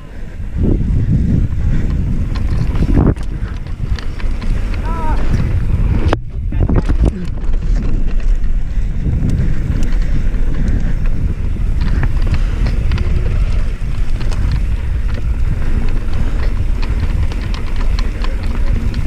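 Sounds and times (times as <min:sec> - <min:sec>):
bike clicks and rattles: 0:00.0 - 0:19.0
tyres rolling over dirt trail: 0:00.0 - 0:19.0
wind rushing over microphone: 0:00.0 - 0:19.0.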